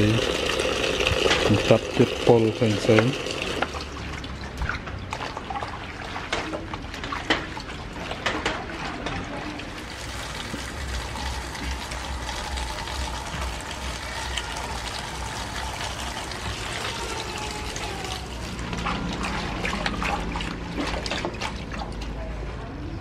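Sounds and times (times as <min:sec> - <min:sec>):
tap water running into basin: 0:00.0 - 0:22.2.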